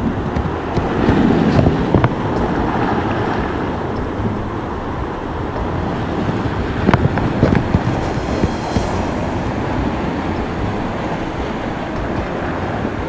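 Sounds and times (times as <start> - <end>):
waves washing against rocks: 0.0 - 13.0
wind buffeting microphone: 0.0 - 13.0.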